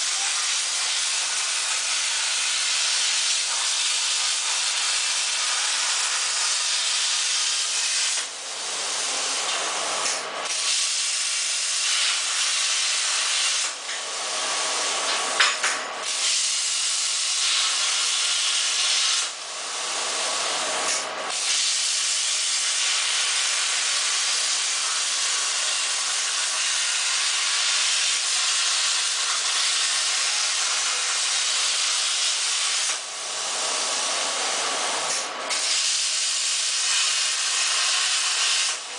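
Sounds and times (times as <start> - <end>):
plasma torch hissing: 0.0 - 38.9.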